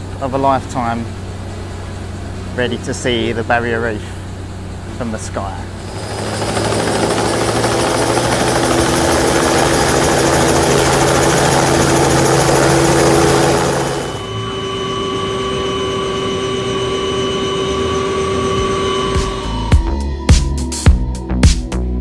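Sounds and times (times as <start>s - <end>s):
helicopter rotor rushing noise: 0.0s - 19.8s
helicopter engine whine: 0.0s - 20.2s.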